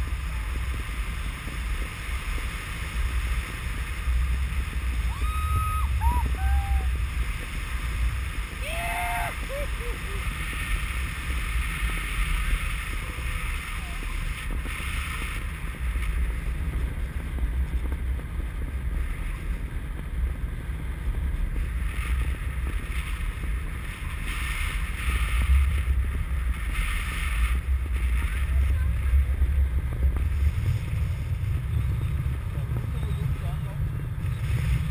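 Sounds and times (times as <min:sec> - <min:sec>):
wind on camera microphone: 0:00.0 - 0:34.9.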